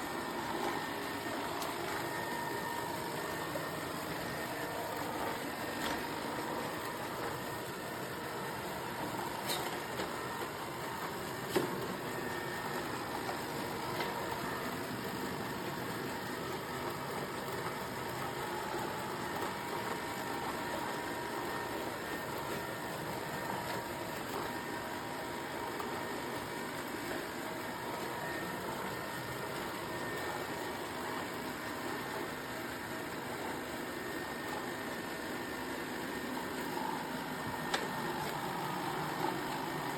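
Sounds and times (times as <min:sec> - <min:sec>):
robot vacuum motor hum: 0:00.0 - 0:39.9.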